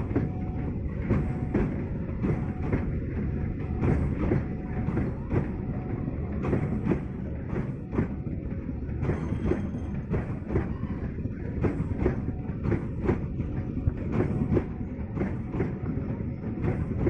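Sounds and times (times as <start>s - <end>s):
low train rumble: 0.0s - 17.0s
train wheels clicking over rail joints: 0.0s - 17.0s.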